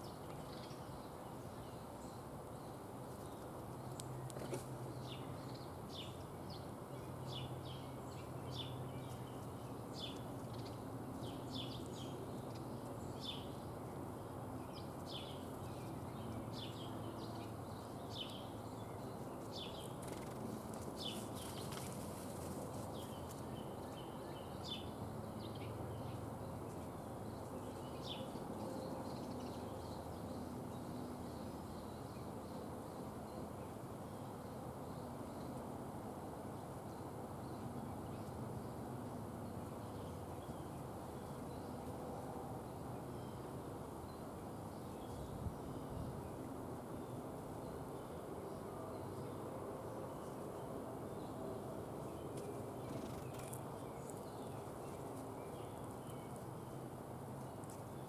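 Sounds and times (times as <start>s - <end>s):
outdoor background noise: 0.0s - 58.0s
songbirds chirping: 0.0s - 58.0s.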